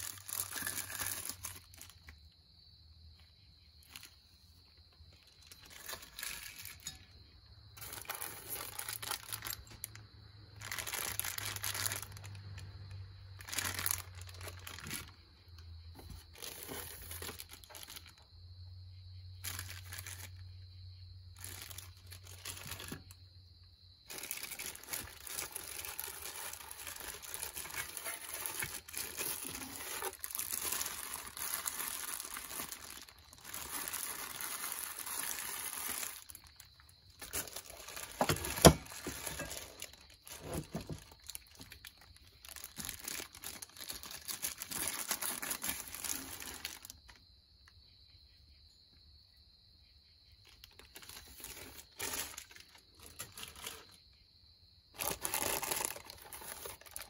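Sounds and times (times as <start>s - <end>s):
plastic bags crinkling: 0.0s - 2.4s, 3.8s - 4.2s, 5.0s - 18.3s, 19.4s - 20.4s, 21.3s - 23.3s, 24.0s - 47.2s, 50.5s - 54.0s, 54.9s - 57.0s.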